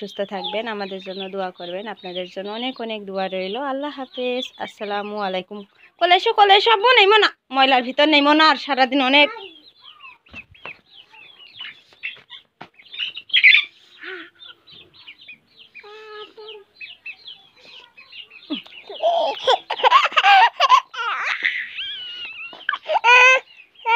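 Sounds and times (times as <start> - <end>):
chickens clucking and chirping: 0.0 - 7.1, 8.2 - 23.9.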